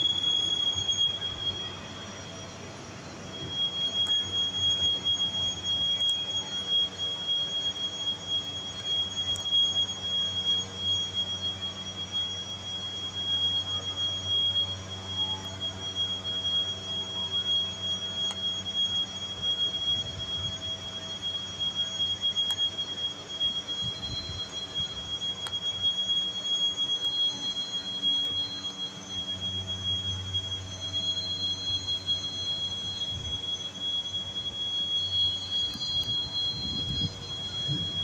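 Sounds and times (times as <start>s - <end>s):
high-pitched whine: 0.0s - 38.0s.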